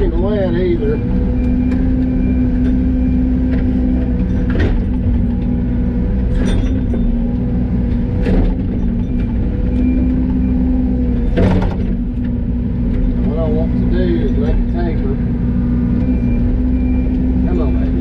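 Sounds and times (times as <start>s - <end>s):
excavator diesel engine hum: 0.0s - 18.0s.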